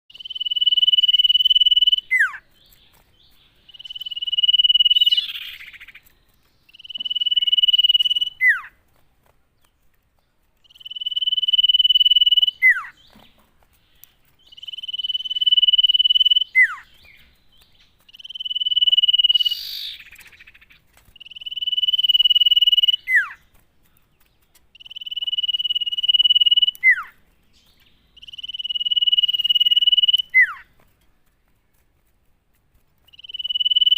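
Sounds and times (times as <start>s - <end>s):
bird whistling song: 0.1s - 8.8s, 10.6s - 13.4s, 14.0s - 23.5s, 24.5s - 30.7s, 33.0s - 33.9s.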